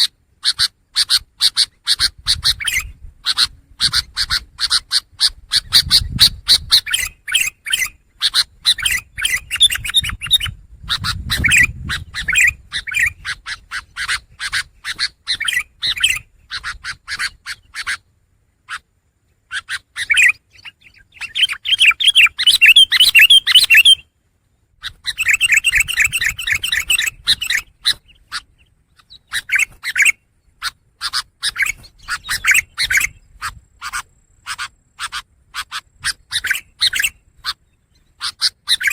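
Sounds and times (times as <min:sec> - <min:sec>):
bird singing repeated notes: 0:00.0 - 0:38.9.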